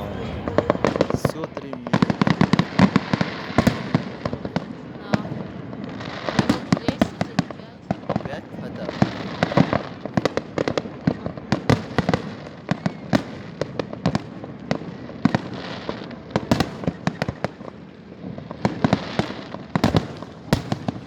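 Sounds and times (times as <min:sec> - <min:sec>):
fireworks bangs: 0:00.0 - 0:21.0
fireworks crackling hiss: 0:00.0 - 0:21.0.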